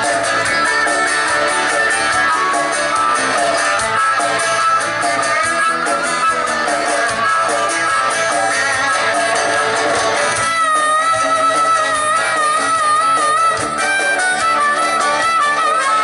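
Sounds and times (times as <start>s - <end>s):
live rock band: 0.0s - 16.0s.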